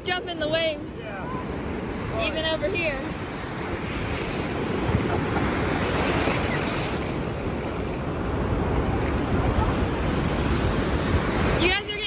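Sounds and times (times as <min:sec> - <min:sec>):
ocean surf washing in: 0:00.0 - 0:12.0
wind buffeting microphone: 0:00.0 - 0:12.0.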